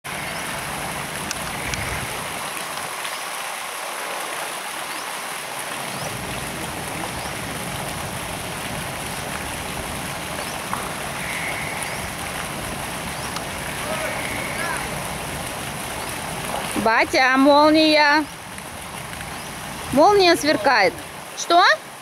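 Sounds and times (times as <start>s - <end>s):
rain falling on water: 0.0s - 22.0s.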